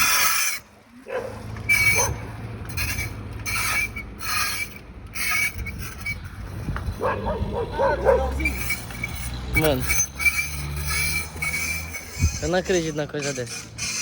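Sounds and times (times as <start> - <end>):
bicycle scraping rasp with squeal: 0.0 - 0.7, 1.4 - 14.0.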